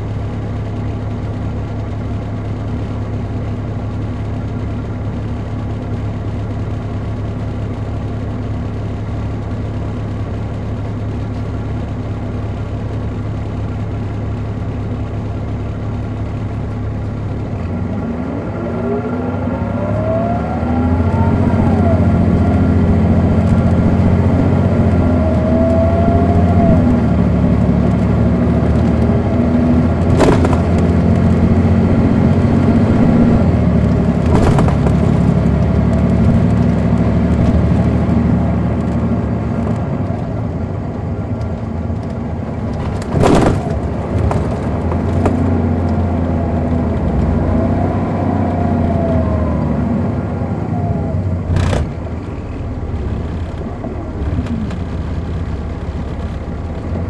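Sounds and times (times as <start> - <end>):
diesel engine drone: 0.0 - 57.0
engine whine: 0.0 - 57.0.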